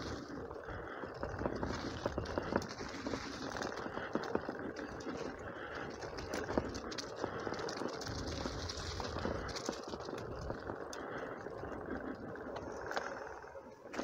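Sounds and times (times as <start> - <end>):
bicycle clicks and rattles: 0.0 - 14.0
bicycle tyre noise on dirt: 0.0 - 14.0.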